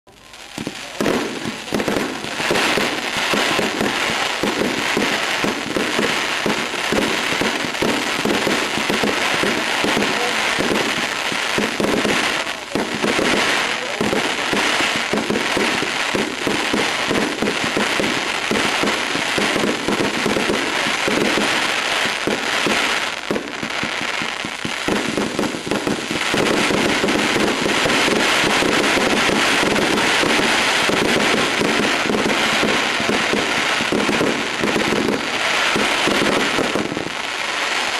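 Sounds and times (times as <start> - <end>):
firework string of sharp bangs: 0.1 - 37.9.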